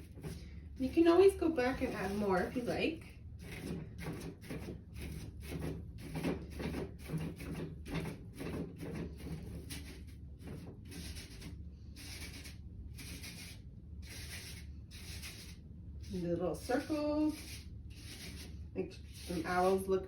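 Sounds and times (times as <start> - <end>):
sponge brush scrubbing paper: 0.0 - 20.0.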